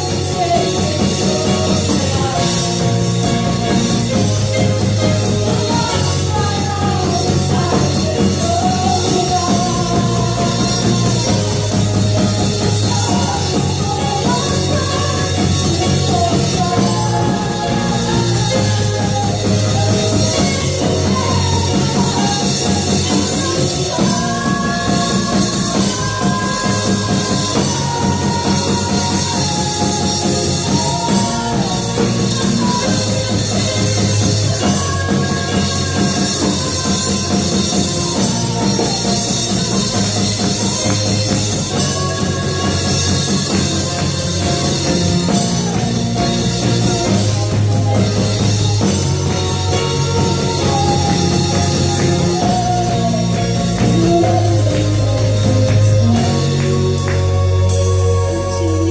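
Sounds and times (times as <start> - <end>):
drum kit: 0.0 - 58.9
electric bass: 0.0 - 58.9
keyboard: 0.0 - 58.9
women singing: 0.0 - 58.9.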